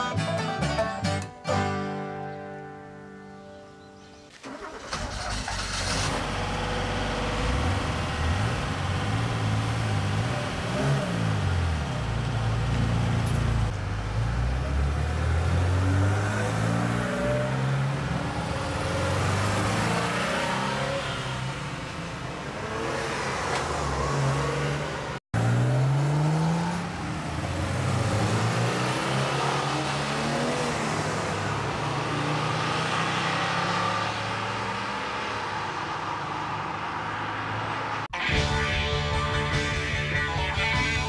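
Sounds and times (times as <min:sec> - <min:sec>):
car engine accelerating: 0:04.4 - 0:21.7, 0:22.7 - 0:41.0
car revving and pulling away: 0:04.4 - 0:41.0.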